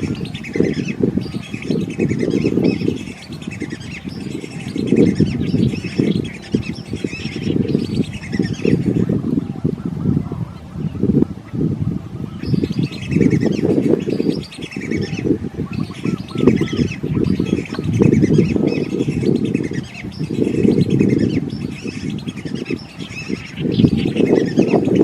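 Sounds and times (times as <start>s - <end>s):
wetland birds calling: 0.0s - 25.0s.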